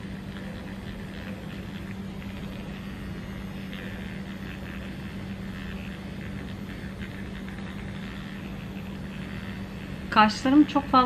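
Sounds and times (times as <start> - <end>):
small motor humming: 0.0 - 11.0.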